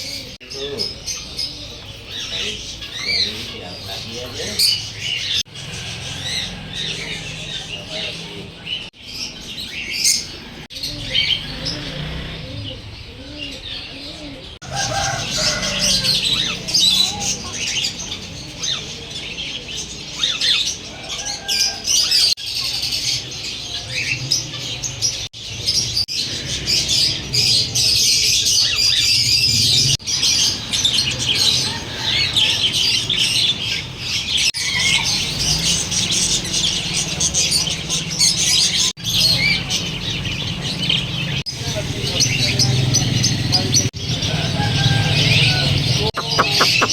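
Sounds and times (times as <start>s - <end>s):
small birds chirping and squawking: 0.0s - 46.9s.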